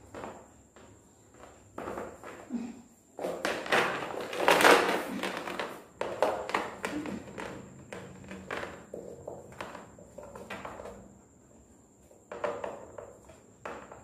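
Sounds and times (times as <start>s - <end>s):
cord rustling and scuffing: 0.0s - 14.0s.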